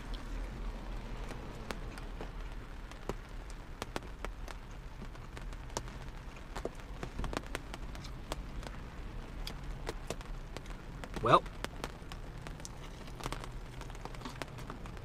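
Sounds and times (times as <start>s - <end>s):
raindrops on car roof: 0.0s - 15.0s.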